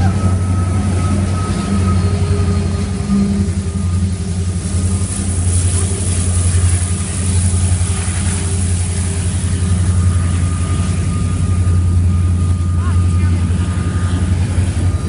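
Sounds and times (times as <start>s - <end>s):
faint high whine: 0.0s - 15.0s
train rumbling past: 0.0s - 15.0s.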